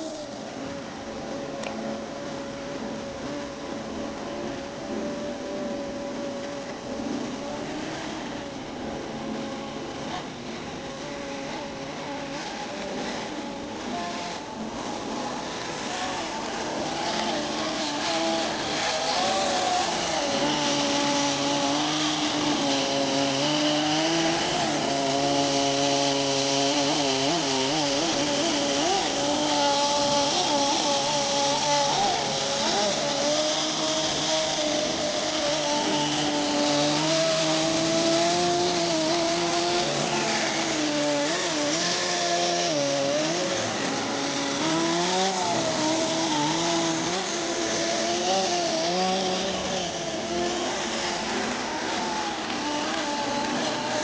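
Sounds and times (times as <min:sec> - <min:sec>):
model nitro engine revving: 0:00.0 - 0:54.0.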